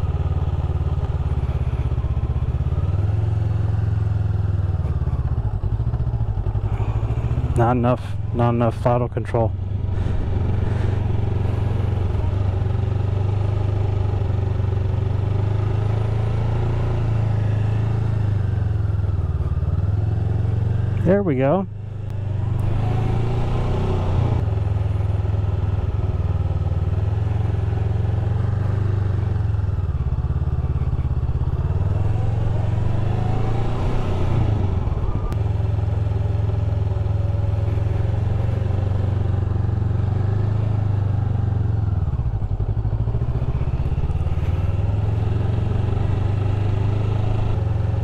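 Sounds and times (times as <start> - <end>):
motorcycle engine at low revs: 0.0 - 48.0.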